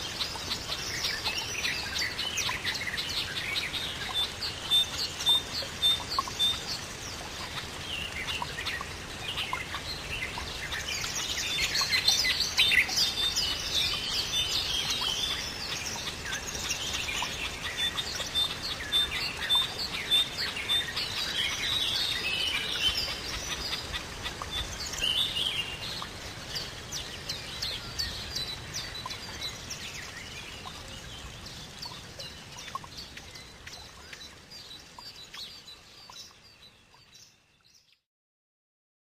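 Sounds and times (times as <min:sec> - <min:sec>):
small birds chirping: 0:00.0 - 0:38.1.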